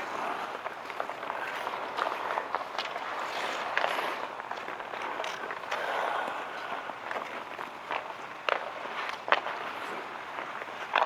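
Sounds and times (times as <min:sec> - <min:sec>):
skates scraping on ice: 0:00.0 - 0:11.0
hockey sticks and puck clacking: 0:00.1 - 0:11.0.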